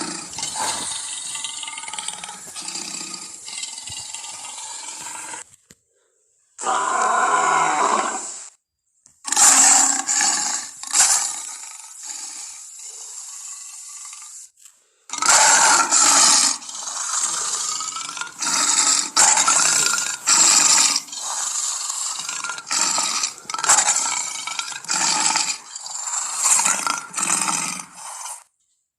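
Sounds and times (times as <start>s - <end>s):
big cat roaring and growling: 0.0s - 5.4s, 6.6s - 8.4s, 9.3s - 14.4s, 15.1s - 28.3s.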